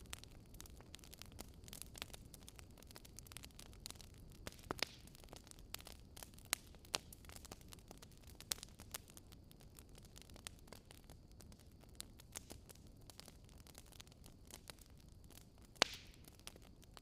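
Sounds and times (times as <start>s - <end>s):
fire popping and snapping: 0.0s - 17.0s
wood fire crackling: 0.0s - 17.0s.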